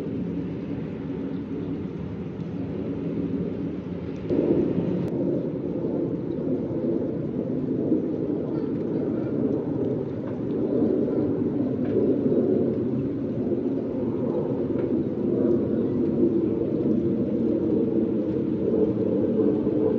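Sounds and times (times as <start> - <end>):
wind rumbling on microphone: 0.0 - 19.9.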